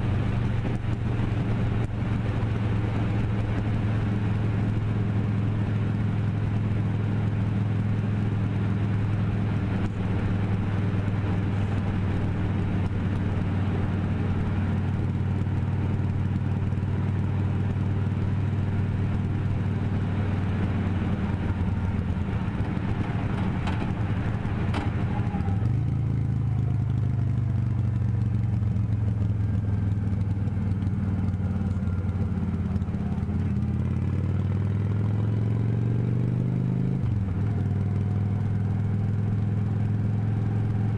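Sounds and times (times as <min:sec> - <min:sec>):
motorcycle engine running: 0:00.0 - 0:40.9
road and wind noise: 0:00.0 - 0:40.9.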